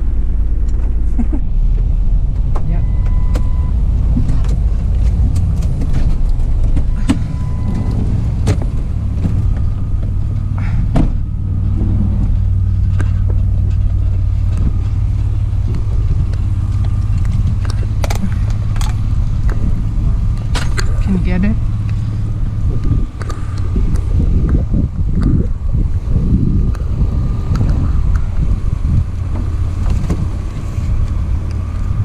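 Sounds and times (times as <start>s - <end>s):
van engine and road rumble: 0.0s - 32.0s.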